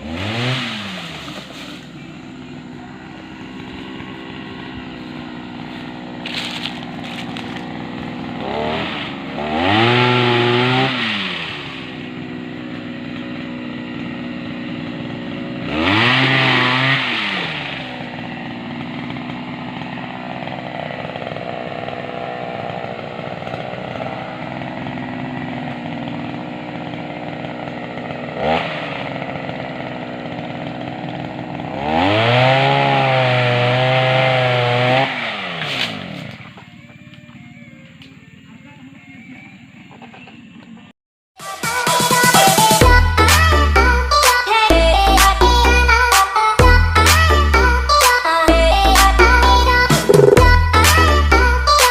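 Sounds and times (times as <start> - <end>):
small petrol engine revving: 0.0 - 40.5, 42.8 - 51.9.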